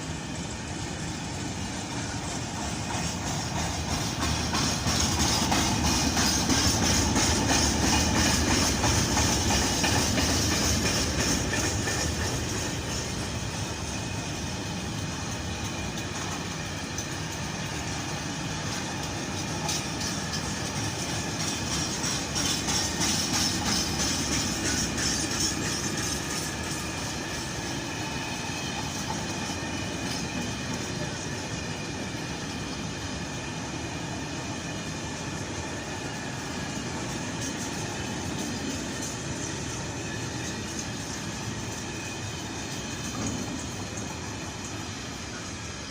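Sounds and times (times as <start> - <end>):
train rumbling past: 0.0 - 45.9
wheels clickety-clack: 0.0 - 45.9
wheels hissing on rails: 0.0 - 45.9.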